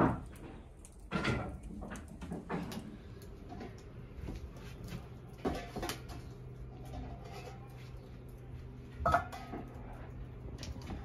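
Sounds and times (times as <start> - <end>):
metal pots knocking and clattering: 0.0 - 3.8, 5.3 - 8.3, 8.9 - 11.0.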